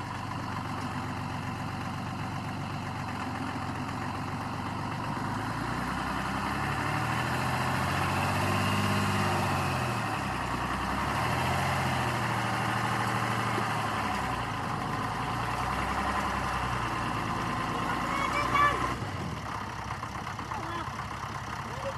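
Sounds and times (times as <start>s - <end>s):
vehicle engine revving: 4.3s - 21.9s.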